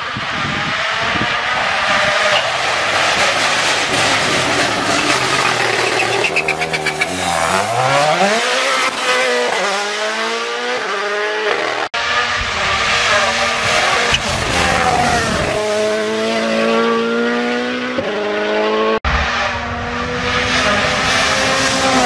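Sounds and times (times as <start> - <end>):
rally car engine revving hard: 0.0 - 22.0.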